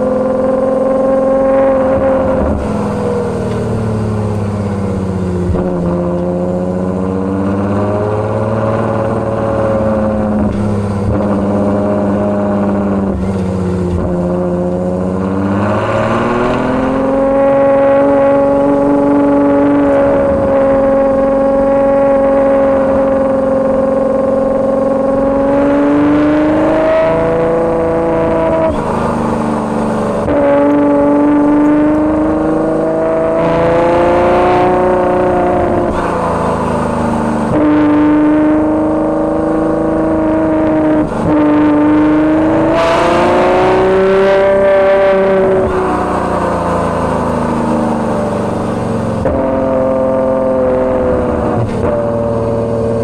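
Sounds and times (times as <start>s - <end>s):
car engine driving: 0.0s - 53.0s.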